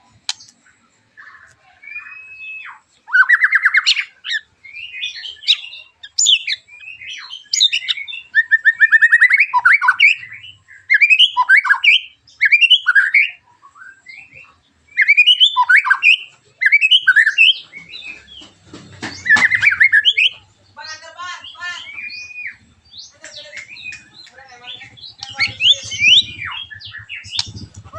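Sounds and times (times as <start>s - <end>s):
songbird singing harsh phrases: 0.0s - 27.9s.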